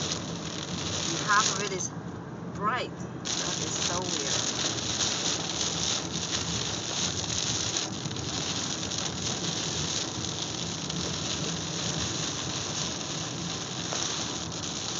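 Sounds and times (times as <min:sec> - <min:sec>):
rain on car windshield: 0:00.0 - 0:01.9, 0:03.2 - 0:14.9
low road rumble: 0:00.0 - 0:14.9.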